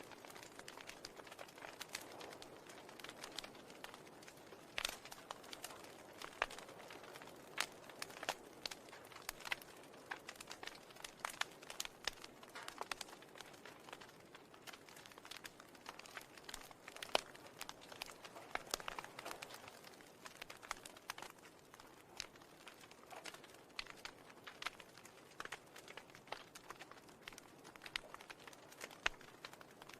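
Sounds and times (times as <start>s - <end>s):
irregular crackling and clicking: 0.0s - 29.9s.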